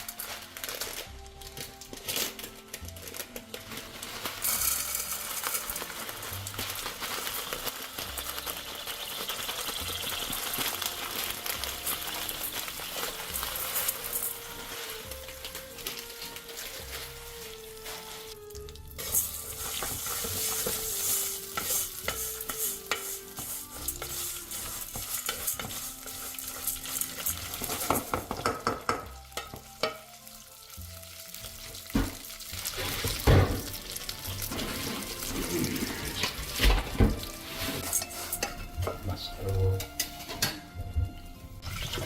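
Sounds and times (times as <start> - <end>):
meat sizzling: 0.0 - 38.9, 39.5 - 42.0.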